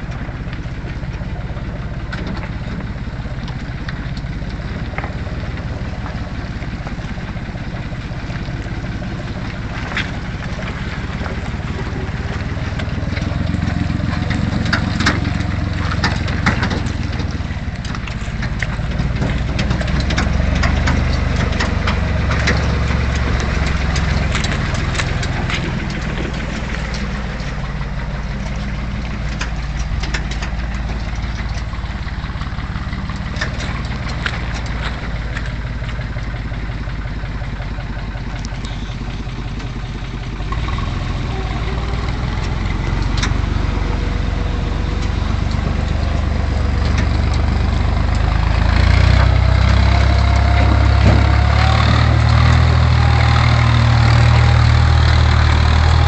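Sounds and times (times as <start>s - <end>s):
clicks and rattles: 0.0s - 56.0s
tractor diesel engine running: 0.0s - 56.0s.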